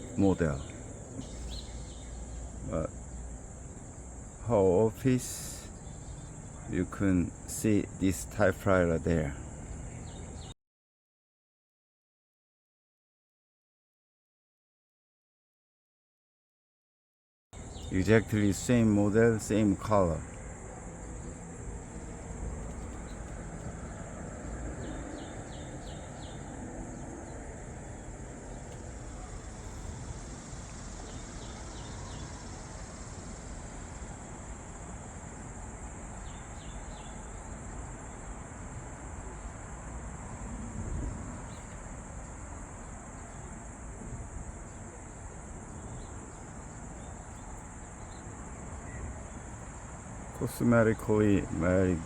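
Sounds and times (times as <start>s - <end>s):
crickets trilling: 0.0s - 10.5s, 17.6s - 52.0s
low background noise: 0.0s - 10.5s, 17.6s - 52.0s.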